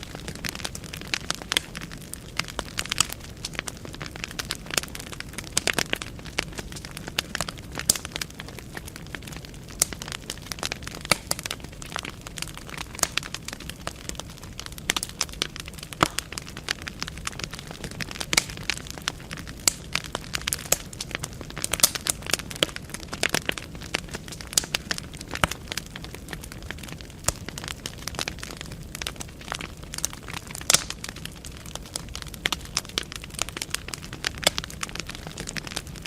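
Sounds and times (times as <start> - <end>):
logs crackling and popping: 0.0 - 36.0
low roar of flame: 0.0 - 36.0.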